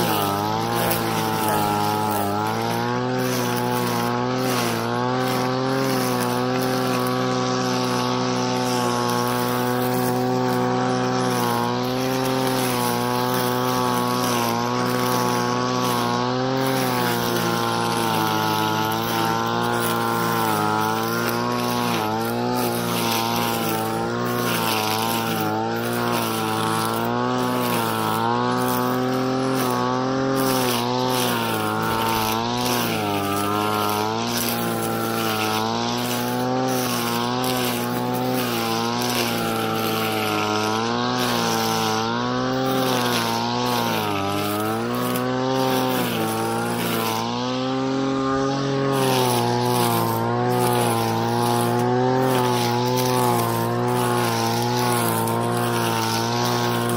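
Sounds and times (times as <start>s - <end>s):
brush cutter engine at high revs: 0.0s - 56.9s
hiss of grass being cut: 0.0s - 56.9s.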